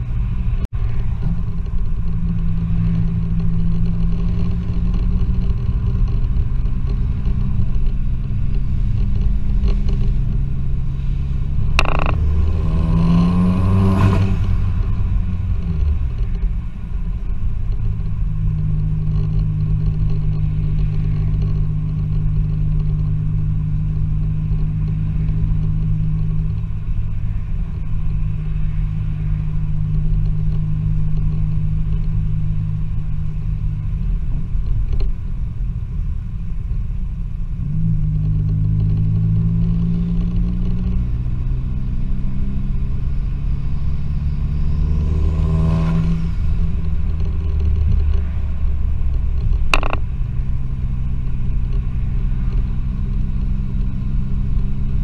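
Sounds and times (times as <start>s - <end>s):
car engine drone: 0.0s - 55.0s
road rumble: 0.0s - 55.0s.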